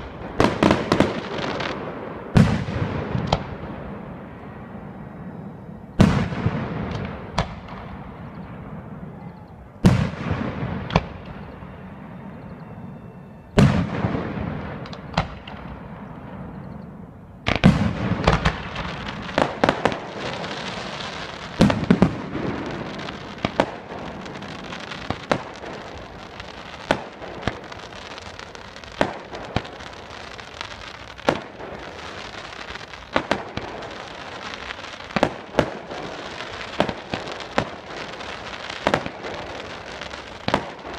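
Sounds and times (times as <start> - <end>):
fireworks bursting with booms: 0.0 - 40.9
fireworks crackling: 0.0 - 40.9.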